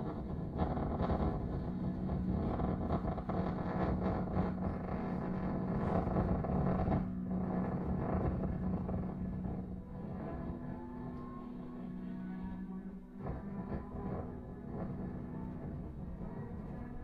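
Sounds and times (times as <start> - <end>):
grainy crackling electronic rumble: 0.0 - 17.0
steady low hum: 0.0 - 17.0.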